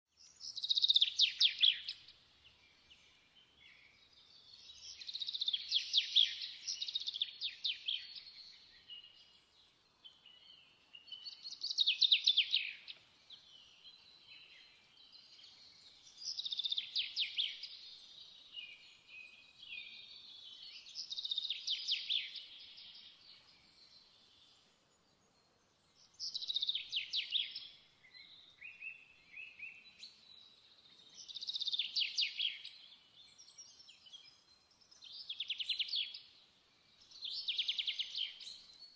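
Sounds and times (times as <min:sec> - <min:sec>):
quiet bird twittering: 0:00.1 - 0:38.9
songbird trilling and chirping: 0:00.2 - 0:38.9.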